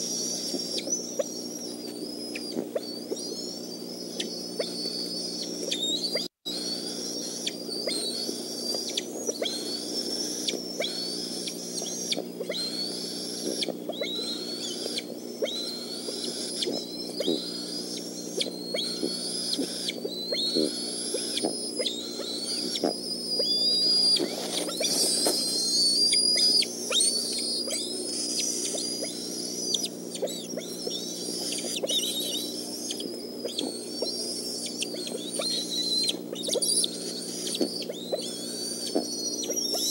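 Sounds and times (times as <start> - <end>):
eagles chirping whistles: 0.0 - 39.9
steady low hum: 0.0 - 39.9.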